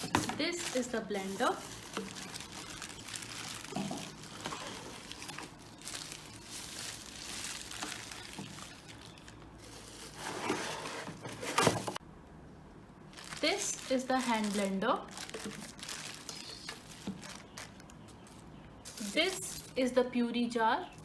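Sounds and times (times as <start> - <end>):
plastic and cardboard rustling: 0.0 - 12.0, 13.1 - 20.0.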